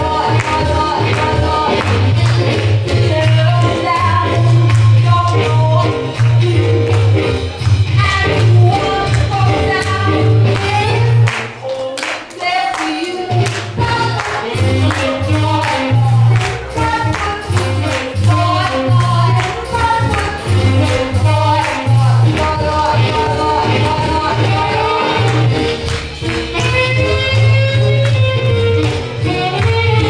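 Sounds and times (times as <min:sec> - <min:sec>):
swing music with singing: 0:00.0 - 0:30.0.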